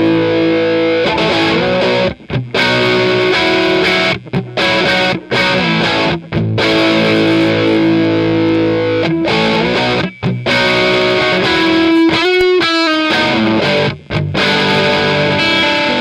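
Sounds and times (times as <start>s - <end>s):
overdriven electric guitar: 0.0s - 16.0s.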